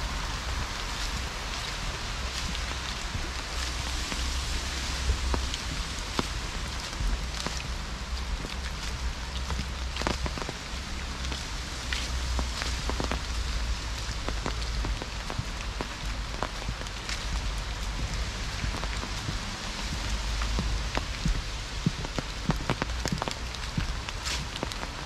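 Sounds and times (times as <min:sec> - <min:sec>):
low rumble: 0:00.0 - 0:25.0
rain hiss: 0:00.0 - 0:25.0
raindrops ticking on wood: 0:00.0 - 0:25.0.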